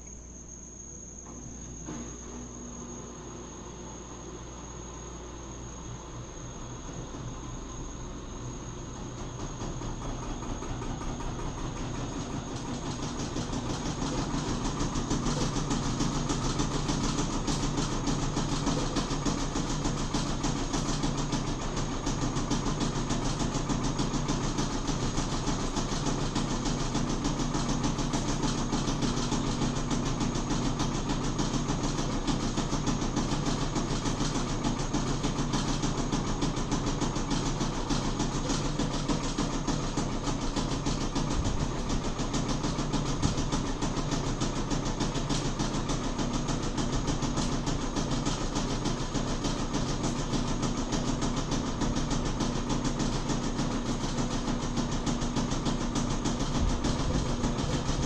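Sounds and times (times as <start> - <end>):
washing machine motor hum: 0.0 - 58.0
fast continuous rattle: 8.8 - 58.0.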